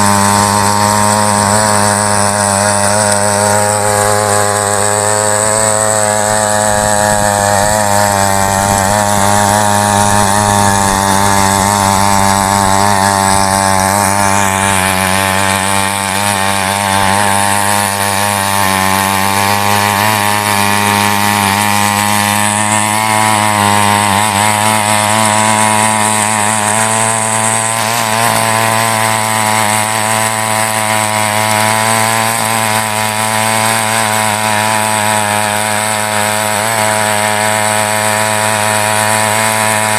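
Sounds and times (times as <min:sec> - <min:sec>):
small petrol engine running: 0:00.0 - 0:39.9
tines churning dry soil: 0:00.0 - 0:39.9.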